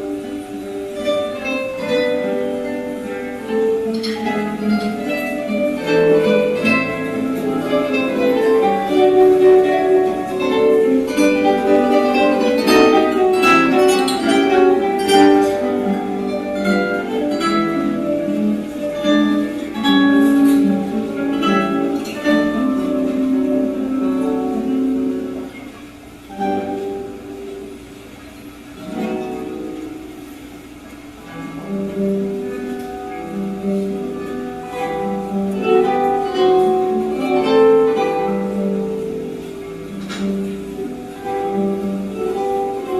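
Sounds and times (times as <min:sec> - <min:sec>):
guitar ensemble playing: 0:00.0 - 0:42.9.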